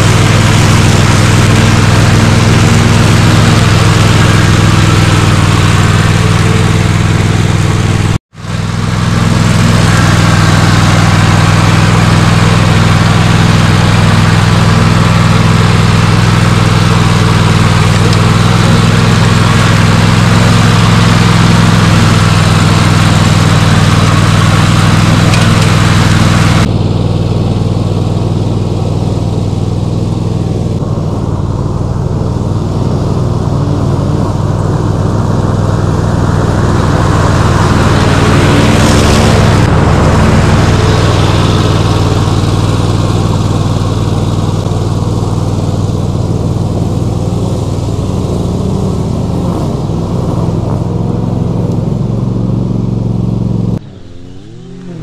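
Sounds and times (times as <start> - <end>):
mower blades cutting grass: 0.0 - 55.0
mower engine drone: 0.0 - 55.0.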